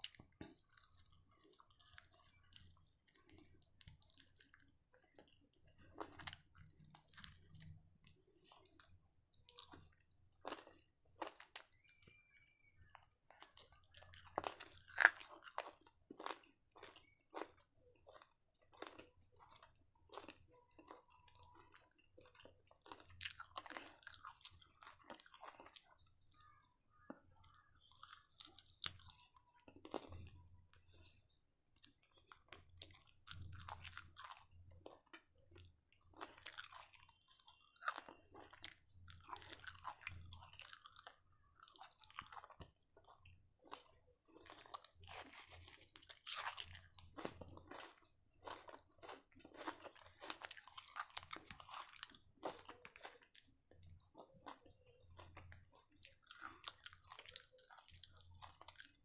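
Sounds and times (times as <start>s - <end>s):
wet chewing: 0.0s - 30.2s, 31.8s - 59.0s
crunching fried chicken: 0.0s - 59.0s.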